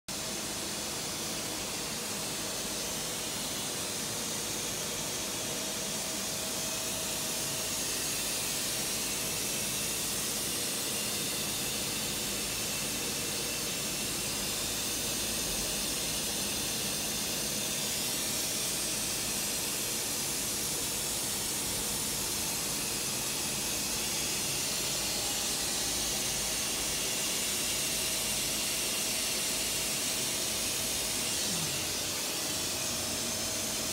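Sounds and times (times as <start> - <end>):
machine hiss: 0.2 - 33.9.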